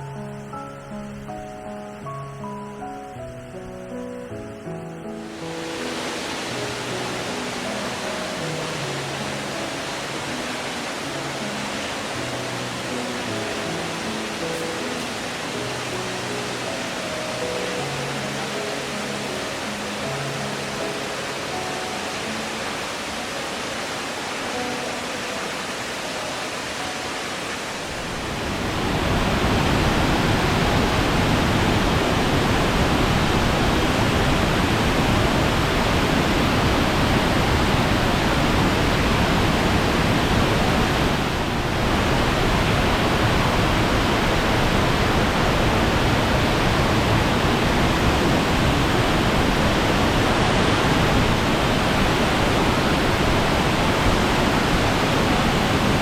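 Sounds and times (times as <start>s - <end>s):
background music notes: 0.0s - 56.0s
waterfall roar: 5.2s - 56.0s.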